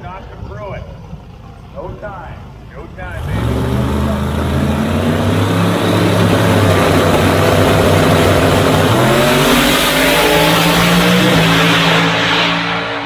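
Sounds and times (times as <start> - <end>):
drag race cars at full throttle: 0.0 - 13.0.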